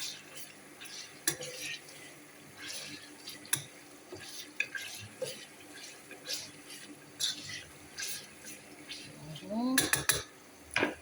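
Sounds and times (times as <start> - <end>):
spoon stirring and scraping pot: 0.0 - 10.3.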